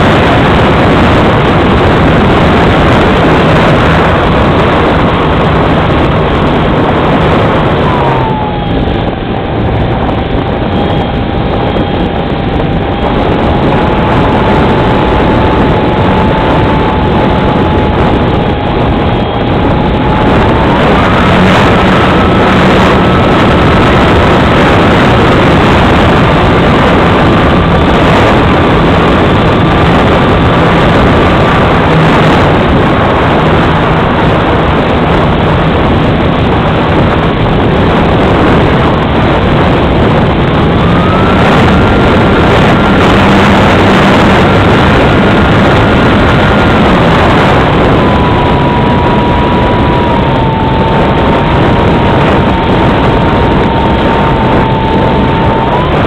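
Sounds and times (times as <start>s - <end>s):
model plane motor whine: 0.0s - 56.0s
wind rush on microphone: 0.0s - 56.0s.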